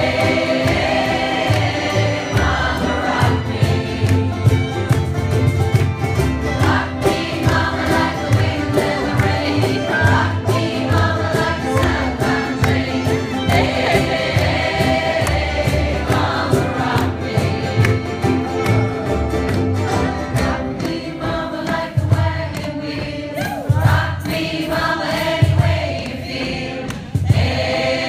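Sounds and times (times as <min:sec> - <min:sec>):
group singing in chorus: 0:00.0 - 0:04.7, 0:06.4 - 0:18.8, 0:19.8 - 0:28.0
ukulele ensemble strumming: 0:00.0 - 0:28.0.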